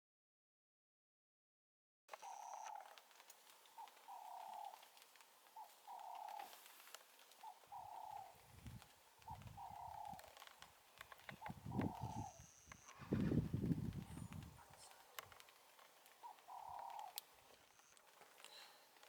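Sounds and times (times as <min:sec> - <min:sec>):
bird calling: 0:02.1 - 0:19.0.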